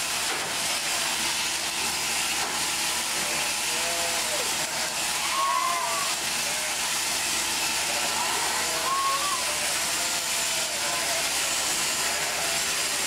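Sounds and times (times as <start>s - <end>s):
electric shearing handpiece whirring: 0.0s - 13.0s.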